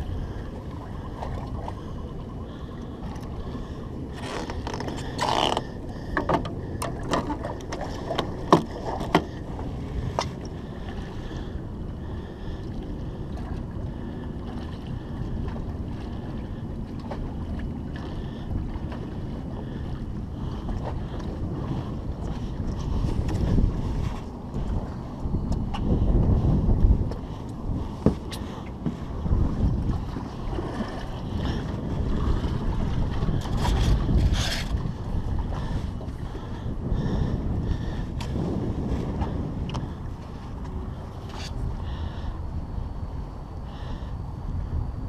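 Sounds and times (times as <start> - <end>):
water lapping: 0.0 - 44.2
wind buffeting microphone: 0.0 - 45.0.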